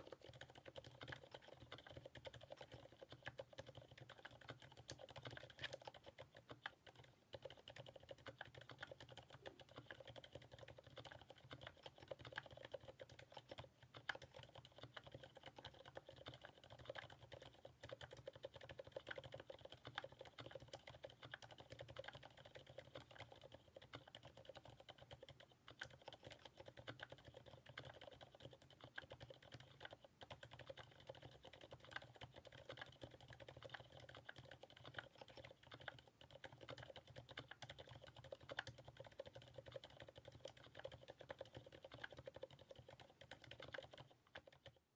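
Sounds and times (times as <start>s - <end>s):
soft keyboard typing: 0.0s - 44.9s.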